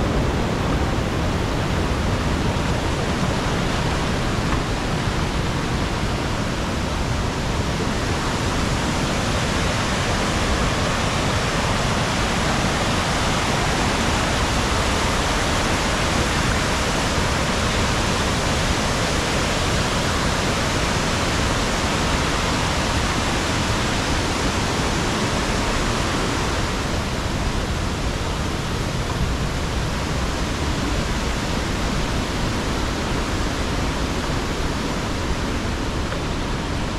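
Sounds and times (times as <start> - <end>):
waterfall rushing: 0.0 - 36.9.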